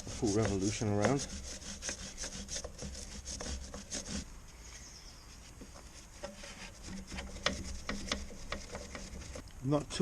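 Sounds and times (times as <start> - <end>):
brush strokes cleaning a chain: 0.0 - 4.3, 5.4 - 9.4.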